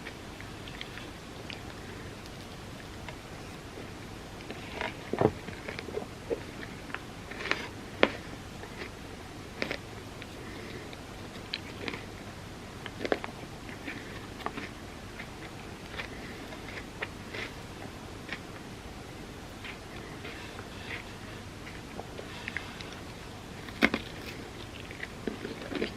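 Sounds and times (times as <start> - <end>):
biting and chewing ice cream: 0.0 - 25.9.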